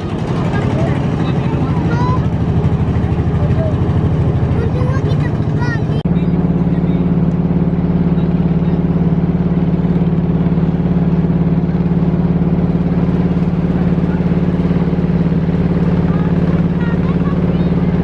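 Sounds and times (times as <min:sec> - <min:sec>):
boat engine pulsing: 0:00.0 - 0:18.0.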